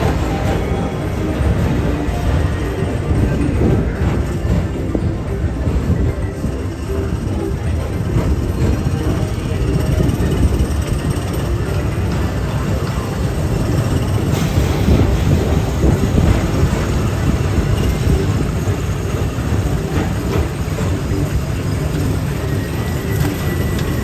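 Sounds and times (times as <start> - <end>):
train cars rumbling on track: 0.0 - 24.0.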